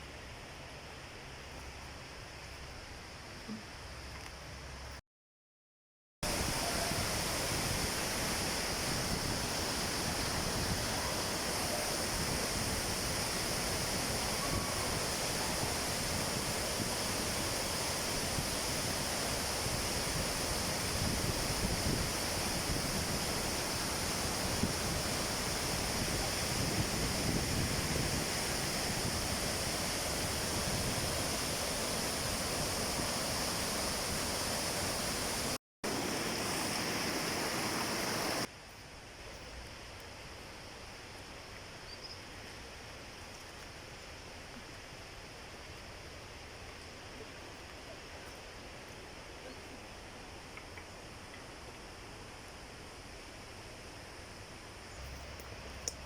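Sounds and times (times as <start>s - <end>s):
rushing water: 6.2s - 56.0s.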